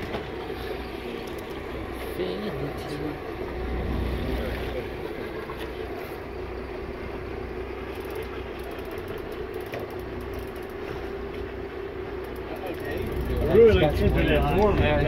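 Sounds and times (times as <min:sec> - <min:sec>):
boat engine humming: 0:00.0 - 0:15.0
wind and water hiss: 0:00.0 - 0:15.0.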